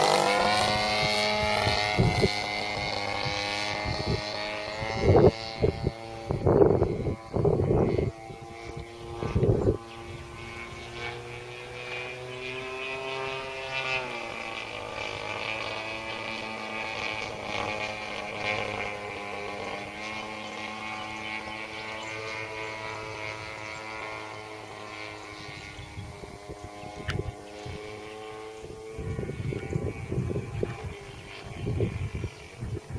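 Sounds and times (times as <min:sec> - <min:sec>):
model airplane engine and propeller: 0:00.0 - 0:32.9.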